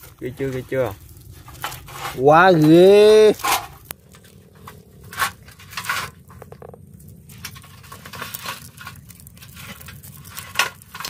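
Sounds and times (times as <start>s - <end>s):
stalks rustling and tapping: 0.0s - 11.0s
steady low rumble: 0.0s - 11.0s.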